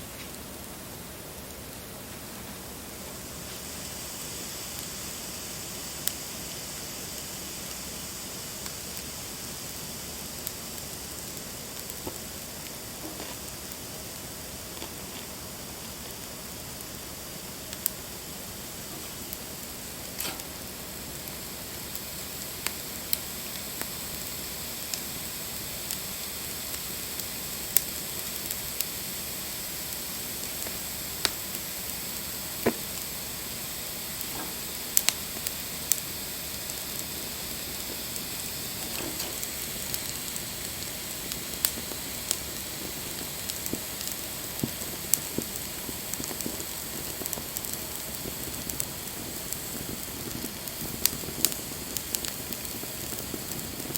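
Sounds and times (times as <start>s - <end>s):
bonfire hissing: 0.0s - 53.9s
fire crackles and pops: 0.0s - 53.9s.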